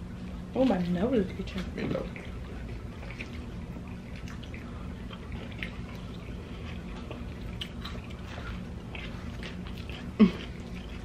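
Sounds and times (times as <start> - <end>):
chewing and wet mouth sounds: 0.0 - 11.0
steady low hum: 0.0 - 11.0.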